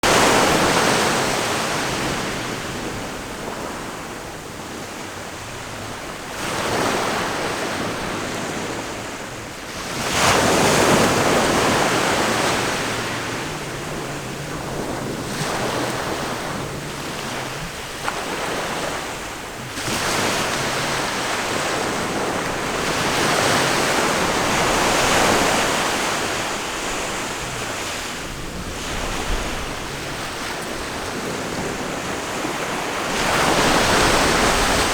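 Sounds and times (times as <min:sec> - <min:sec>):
ocean waves breaking: 0:00.0 - 0:34.9
wind buffeting microphone: 0:00.0 - 0:34.9.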